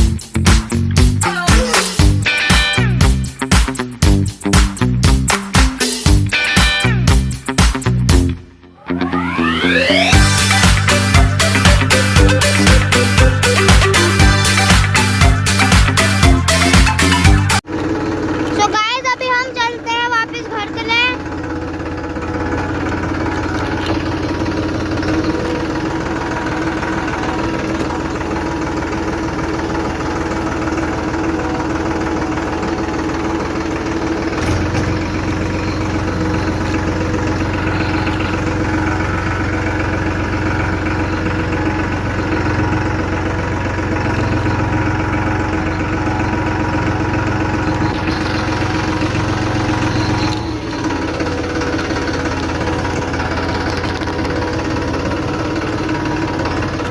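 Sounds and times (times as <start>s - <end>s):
tractor engine running: 0.0s - 8.4s, 9.1s - 56.9s.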